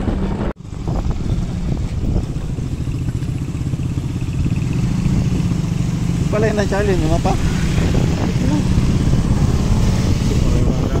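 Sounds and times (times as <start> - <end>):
road and wind noise: 0.0 - 11.0
vehicle engine running: 0.0 - 11.0.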